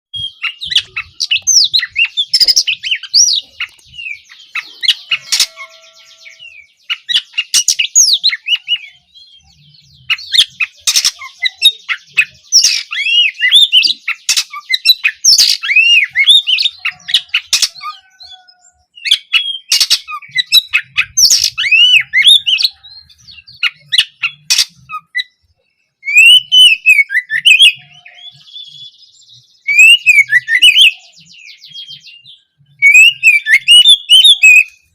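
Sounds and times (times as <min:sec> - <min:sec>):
bird singing: 0:00.1 - 0:34.9.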